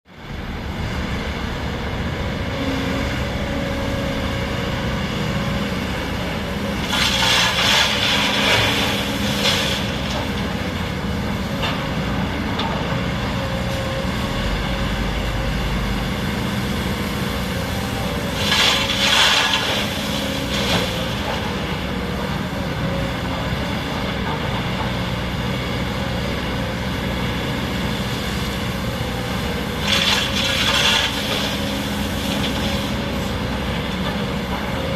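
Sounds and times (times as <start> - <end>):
excavator diesel engine: 0.1 - 34.9.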